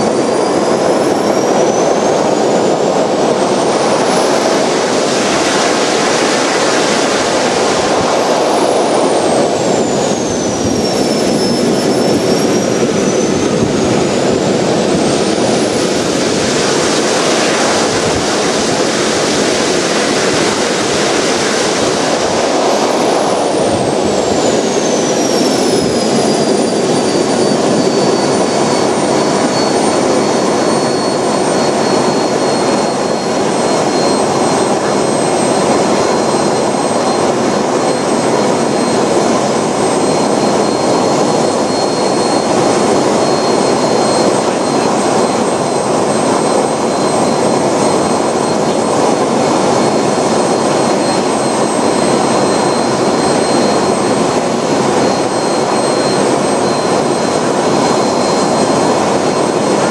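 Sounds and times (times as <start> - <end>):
model jet turbine roaring: 0.0 - 59.9.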